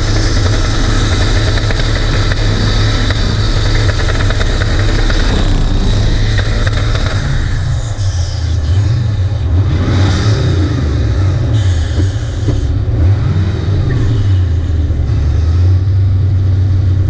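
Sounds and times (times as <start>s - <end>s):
car engine revving loudly: 0.0s - 17.0s.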